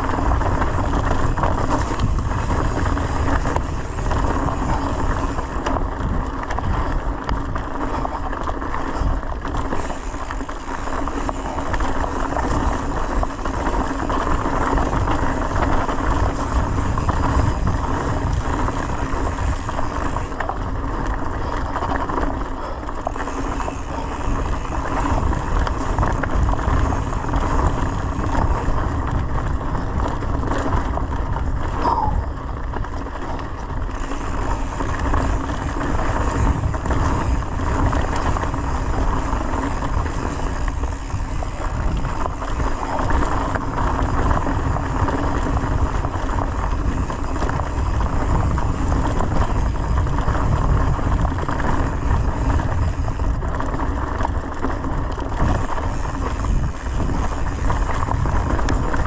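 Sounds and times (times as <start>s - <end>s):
bike tyres rolling on dirt trail: 0.0s - 59.0s
wind rush on microphone: 0.0s - 59.0s.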